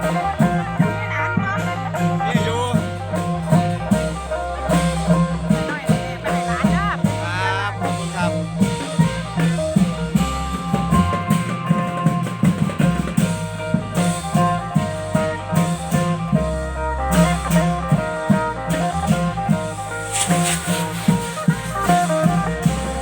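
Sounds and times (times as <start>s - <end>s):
long-drum band playing: 0.0s - 23.0s.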